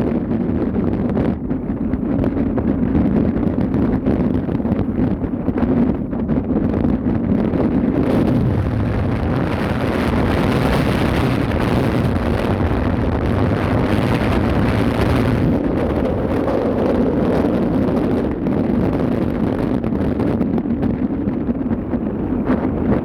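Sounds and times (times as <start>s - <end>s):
ship low rumble: 0.0s - 23.0s
wind buffeting microphone: 0.0s - 23.0s.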